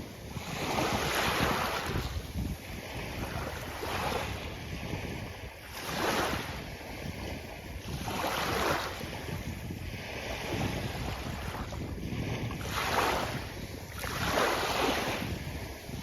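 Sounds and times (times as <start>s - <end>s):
waves washing onto beach: 0.0s - 16.0s
wind rumble on microphone: 0.0s - 16.0s.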